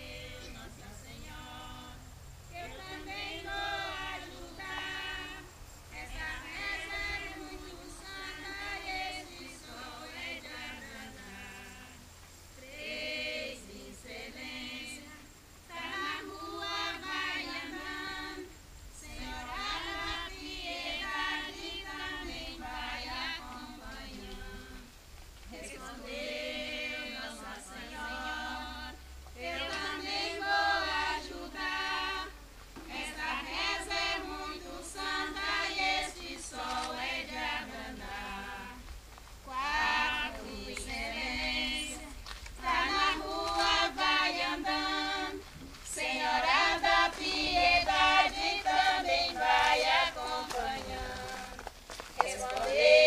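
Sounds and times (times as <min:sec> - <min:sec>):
women singing a cappella chant: 0:00.0 - 0:53.0.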